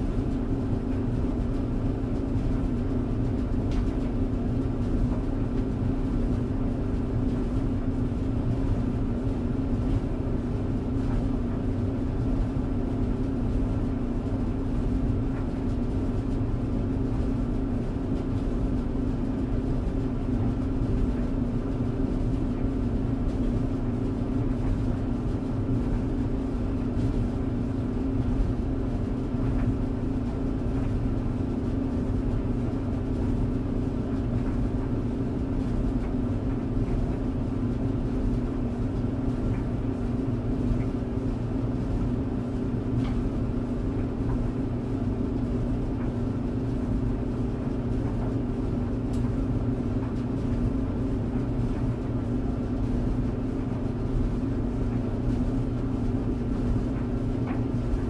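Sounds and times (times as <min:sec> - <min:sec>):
tumble dryer running: 0:00.0 - 0:58.0.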